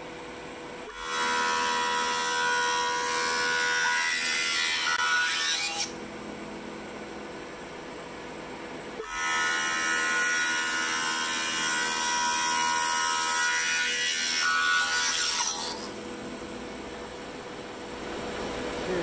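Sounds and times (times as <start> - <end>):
high whine of planer: 0.0 - 19.0.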